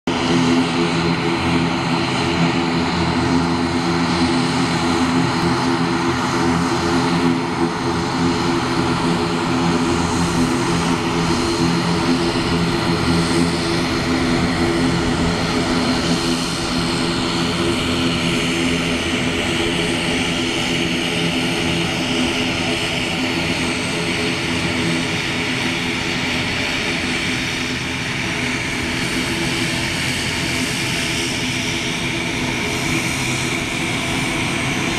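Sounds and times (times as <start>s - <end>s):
turboprop engines droning: 0.1s - 34.9s.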